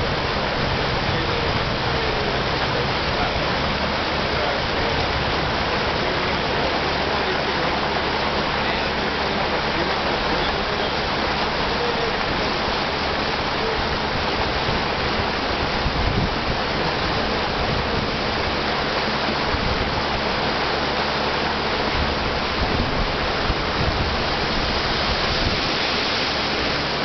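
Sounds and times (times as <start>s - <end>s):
boat motor hum: 0.0s - 27.0s
wind and water rushing: 0.0s - 27.0s.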